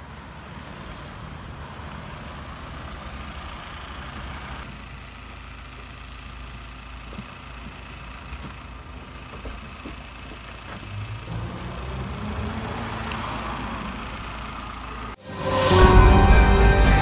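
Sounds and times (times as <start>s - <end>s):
vehicle engine idling: 0.0s - 15.2s.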